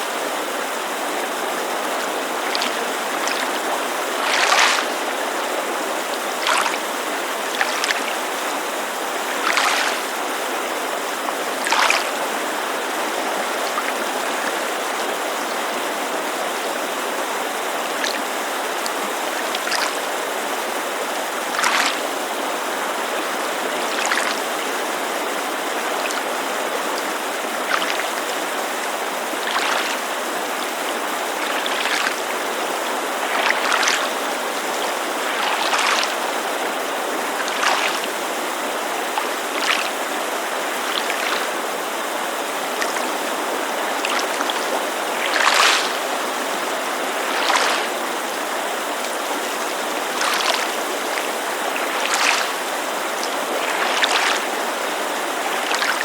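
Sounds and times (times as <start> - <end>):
creek rushing: 0.0 - 56.0
small waves lapping: 0.0 - 56.0.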